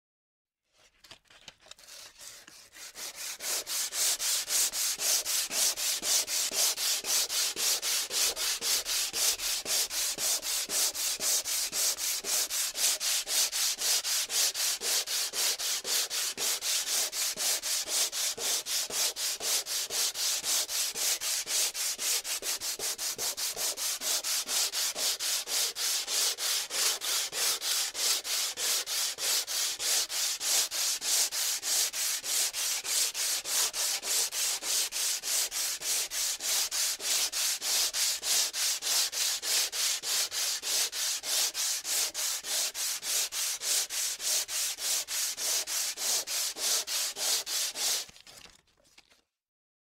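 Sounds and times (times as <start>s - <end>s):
sandpaper rubbing: 0.8s - 49.1s.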